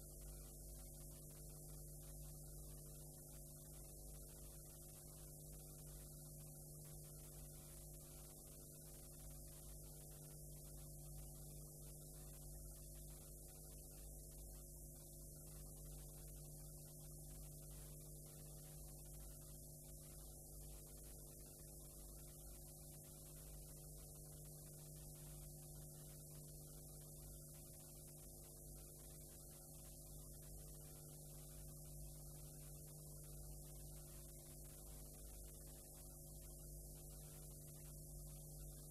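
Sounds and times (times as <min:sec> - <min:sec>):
faint electrical hum with hiss: 0:00.0 - 0:38.9.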